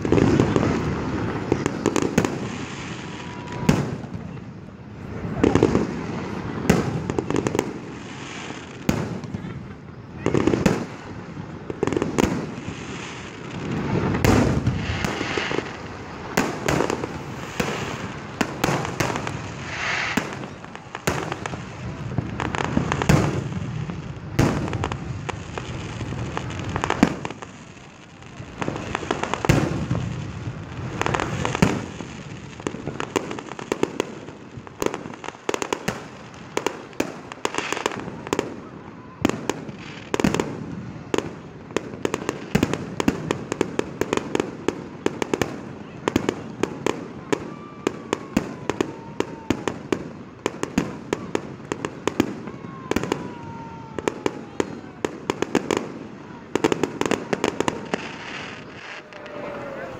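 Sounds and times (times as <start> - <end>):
fireworks booming: 0.0 - 59.9
fireworks cracks and pops: 0.0 - 59.9.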